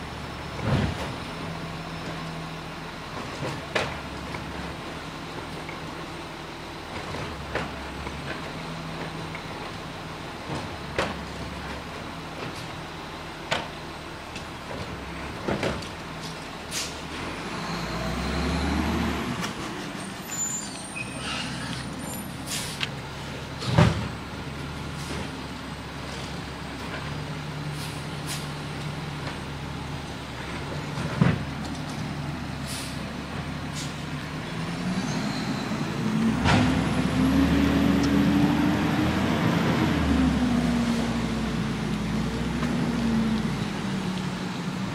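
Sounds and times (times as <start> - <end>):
garbage truck diesel engine: 0.0 - 44.9.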